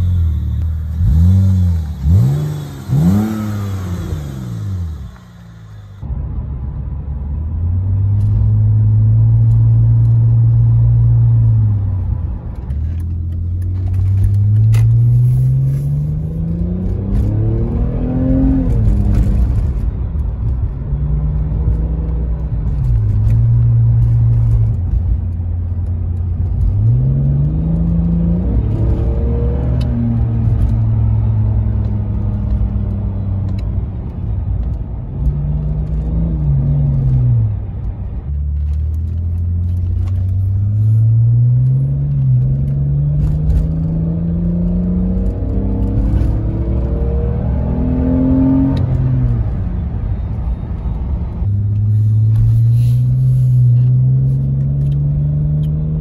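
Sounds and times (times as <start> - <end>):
car engine accelerating: 0.0 - 6.1, 7.6 - 56.0.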